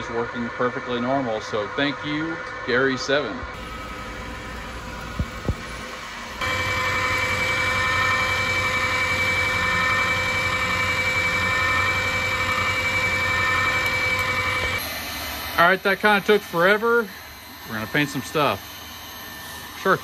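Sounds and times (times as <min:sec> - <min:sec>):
machine humming and whining: 0:00.0 - 0:20.0.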